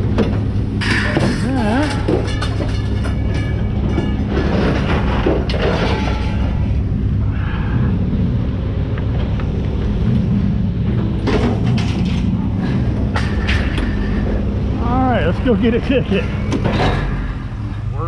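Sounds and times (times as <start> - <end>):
pickup truck rumble: 0.0 - 18.0.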